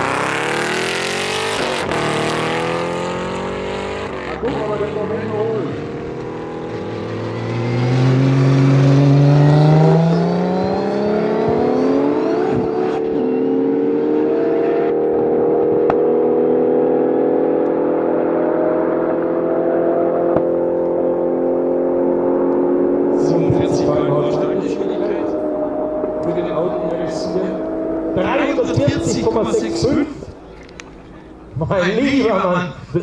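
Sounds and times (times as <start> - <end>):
car engine accelerating hard: 0.0 - 31.5.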